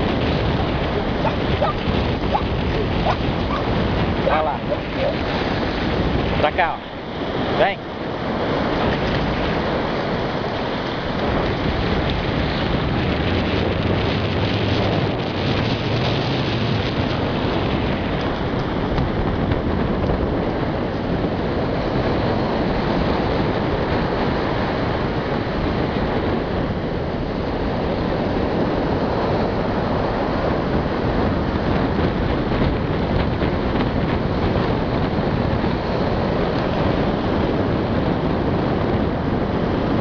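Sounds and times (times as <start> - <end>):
surf washing over sand: 0.0 - 40.0
wind buffeting microphone: 0.0 - 40.0.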